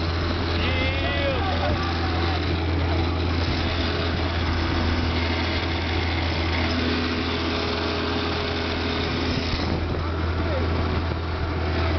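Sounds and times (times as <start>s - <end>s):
outboard motor droning: 0.0s - 11.9s.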